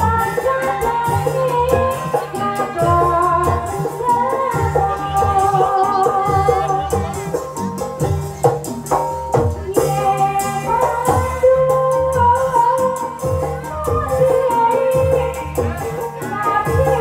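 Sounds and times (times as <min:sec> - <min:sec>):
person singing long notes: 0:00.0 - 0:07.6, 0:09.6 - 0:17.0
gamelan ensemble playing: 0:00.0 - 0:17.0.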